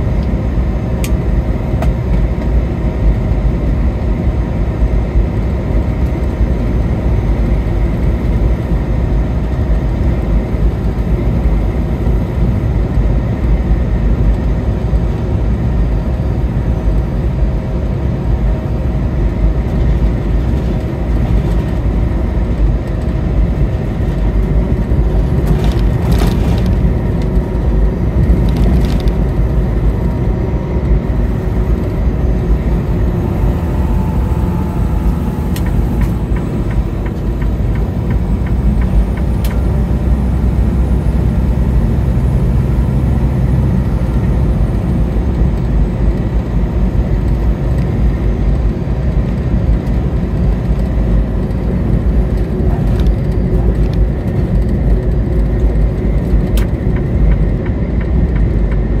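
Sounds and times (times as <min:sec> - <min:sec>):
car driving at highway speed: 0:00.0 - 0:59.0.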